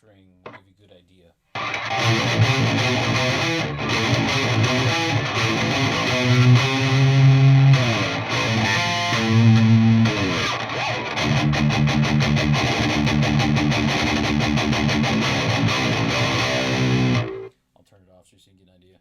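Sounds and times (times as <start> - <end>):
distorted electric guitar riffing: 1.6 - 17.5.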